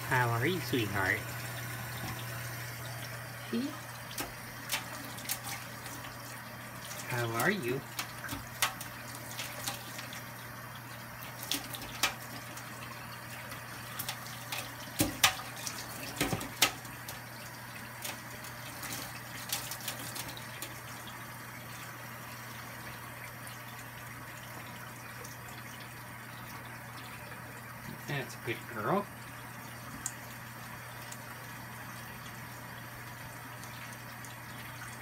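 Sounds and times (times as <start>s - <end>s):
faucet running into a metal sink: 0.0s - 35.0s
parrot splashing water: 0.0s - 35.0s.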